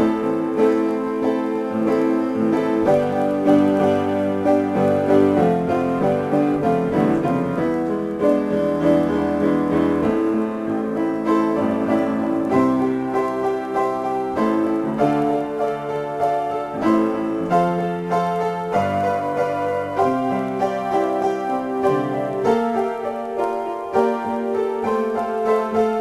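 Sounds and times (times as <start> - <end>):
piano improvisation: 0.0 - 26.0.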